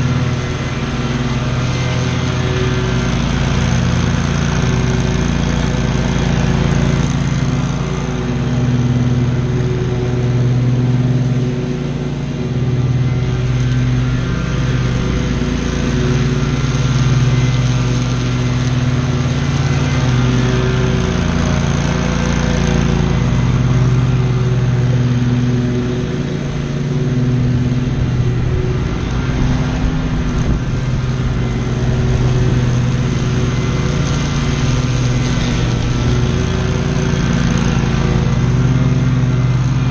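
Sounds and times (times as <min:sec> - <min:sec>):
lawn mower engine cutting grass: 0:00.0 - 0:39.9.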